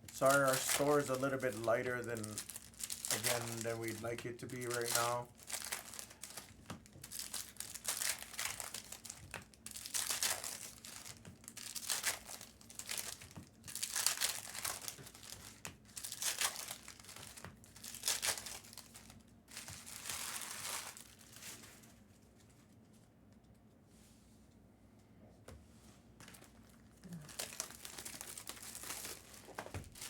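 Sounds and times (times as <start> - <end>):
foil wrappers crinkling and tearing: 0.0 - 22.1, 26.2 - 30.0.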